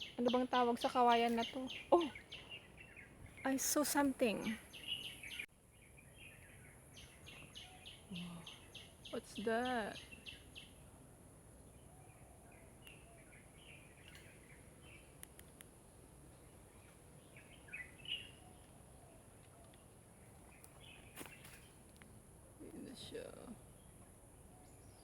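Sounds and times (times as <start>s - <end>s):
faint bird chirps: 0.0s - 10.9s, 11.6s - 15.4s, 16.3s - 21.9s.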